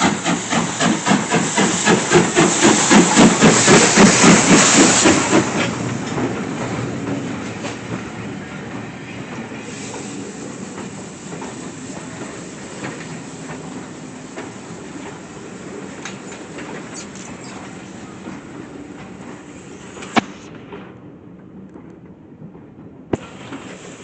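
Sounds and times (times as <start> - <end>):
steam locomotive chuffing: 0.0 - 20.9, 23.1 - 24.0
train wheels clattering on rails: 0.0 - 24.0.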